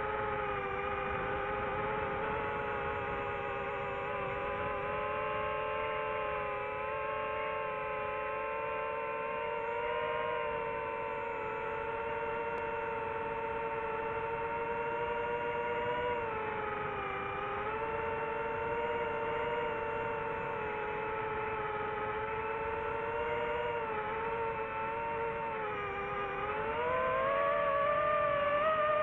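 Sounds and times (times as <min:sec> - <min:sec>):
drone propellers whining: 0:00.0 - 0:29.0.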